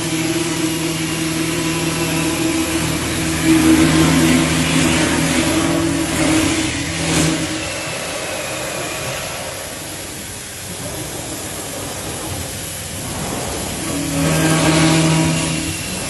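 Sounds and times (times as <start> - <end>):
machine hum: 0.0 - 16.0
router cutting wood hiss: 0.0 - 16.0.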